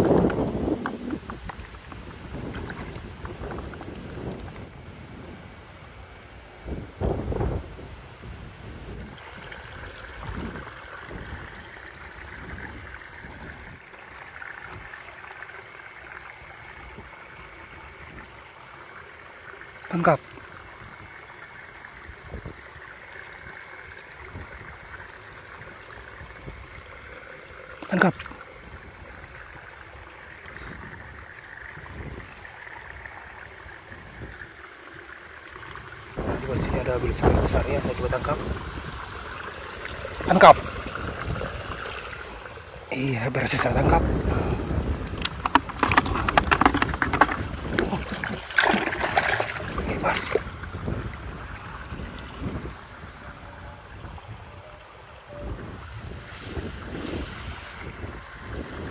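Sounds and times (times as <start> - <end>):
wind buffeting microphone: 0.0 - 15.0, 22.0 - 27.1, 28.4 - 58.9
steady fine hiss: 0.0 - 45.5, 47.4 - 58.9.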